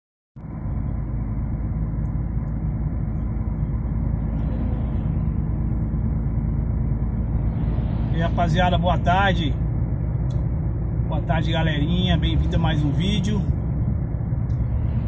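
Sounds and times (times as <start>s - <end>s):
road noise: 0.4s - 15.0s
truck engine drone: 0.4s - 15.0s.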